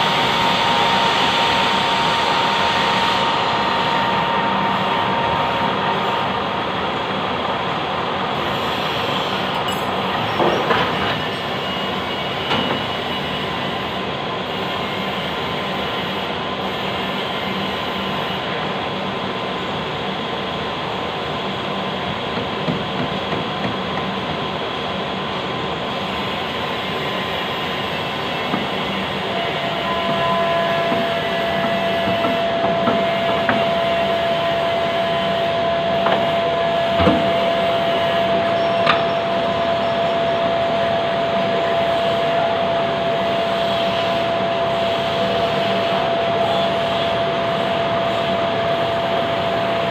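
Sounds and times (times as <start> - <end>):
lathe whirring and whining: 0.0 - 49.9
lower machine whine: 0.0 - 49.9.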